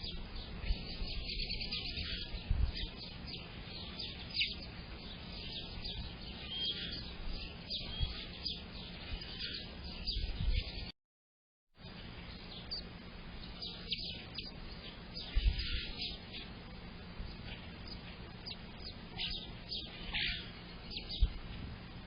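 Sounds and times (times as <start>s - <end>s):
songbirds chirping and singing: 0.0s - 10.9s, 11.8s - 22.0s.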